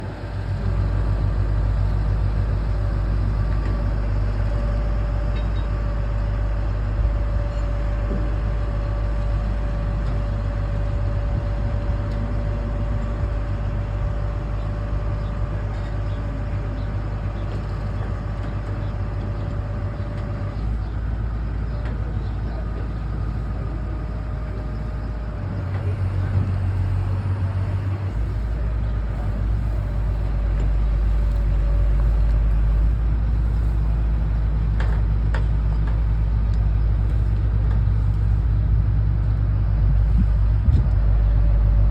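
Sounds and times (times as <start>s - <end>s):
heavy engine rumbling: 0.0s - 41.9s
thin steady whine: 0.0s - 41.9s.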